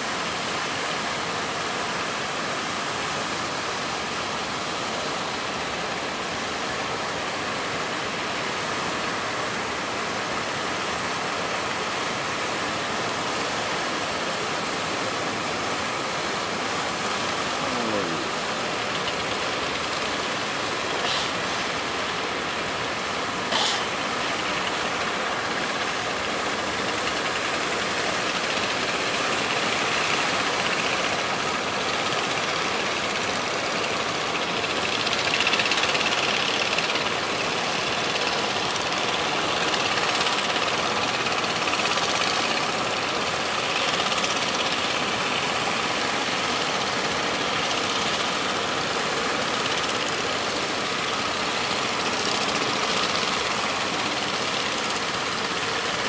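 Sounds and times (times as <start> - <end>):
boat engines running: 0.0 - 56.0
waves: 0.0 - 56.0.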